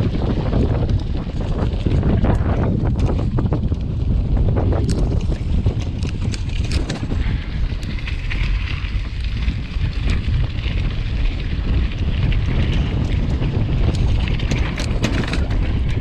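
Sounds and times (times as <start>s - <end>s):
bike clicks and rattles: 0.0s - 16.0s
wind buffeting microphone: 0.0s - 16.0s.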